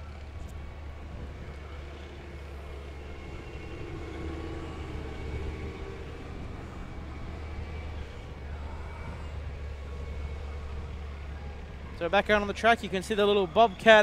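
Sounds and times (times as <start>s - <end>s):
low engine drone: 0.0s - 14.0s
tracked vehicles driving by: 0.0s - 14.0s.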